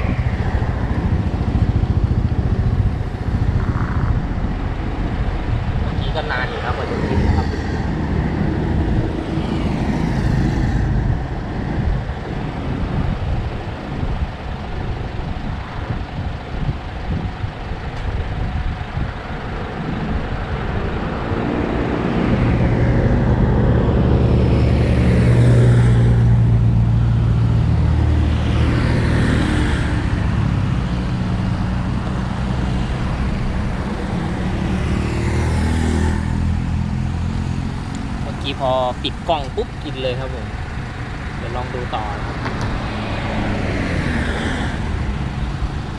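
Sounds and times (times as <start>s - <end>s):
heavy vehicle engine hum: 0.0s - 45.9s
vehicles passing by: 0.0s - 45.9s.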